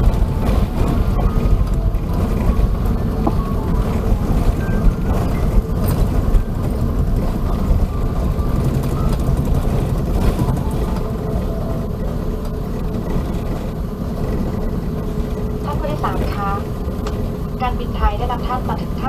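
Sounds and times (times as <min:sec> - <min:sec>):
aircraft rolling low rumble: 0:00.0 - 0:19.0
jet engines running: 0:00.0 - 0:19.0.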